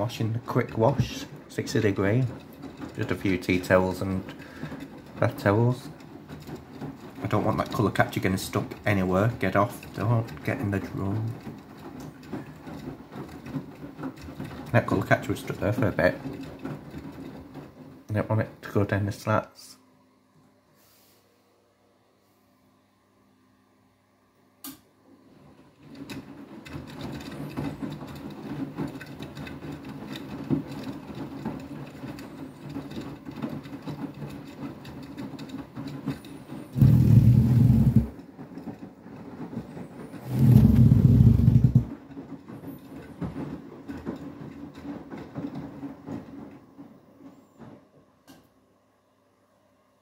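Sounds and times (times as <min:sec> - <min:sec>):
washing machine drum humming: 0:00.0 - 0:19.5, 0:24.6 - 0:48.3.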